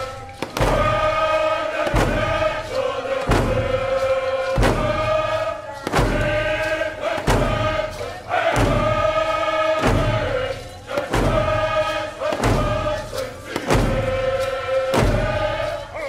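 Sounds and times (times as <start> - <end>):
deep drum beat: 0.0 - 15.7
voices chanting long notes: 0.0 - 16.0.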